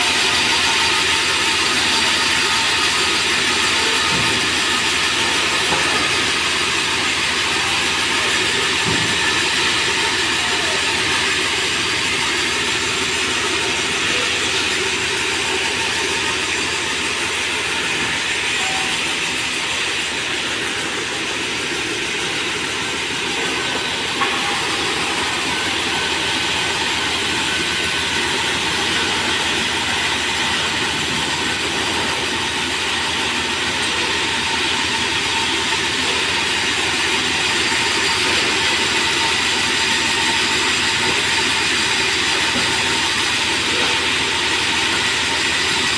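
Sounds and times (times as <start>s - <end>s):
band saw cutting wood: 0.0s - 45.9s.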